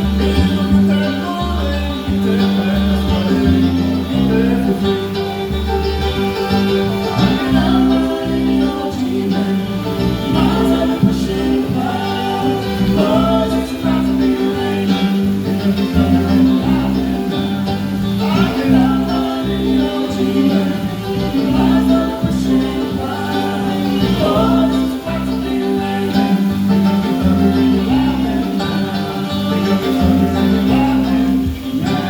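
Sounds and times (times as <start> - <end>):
bass line: 0.0 - 32.0
guitar: 0.0 - 32.0
people singing: 0.0 - 32.0.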